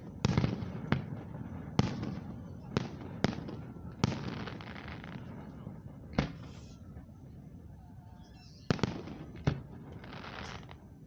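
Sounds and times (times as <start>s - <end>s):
fireworks crackling hiss: 0.0s - 7.1s, 8.2s - 11.0s
fireworks bangs: 0.0s - 7.2s, 8.4s - 11.0s.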